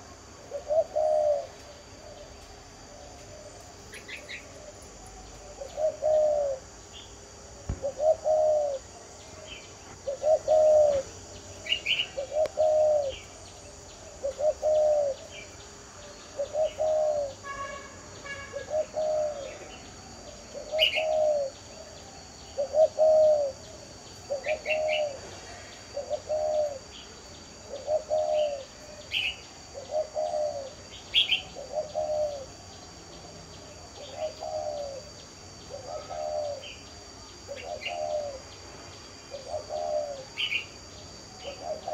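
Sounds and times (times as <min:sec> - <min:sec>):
dove cooing: 0:00.0 - 0:06.8, 0:07.5 - 0:17.7, 0:18.4 - 0:32.8, 0:33.7 - 0:38.6, 0:39.3 - 0:41.9
high insect hiss: 0:00.0 - 0:41.9.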